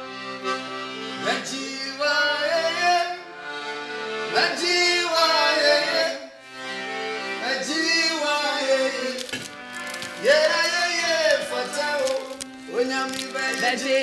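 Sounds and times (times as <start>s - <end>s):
accordion playing chords: 0.0s - 14.0s.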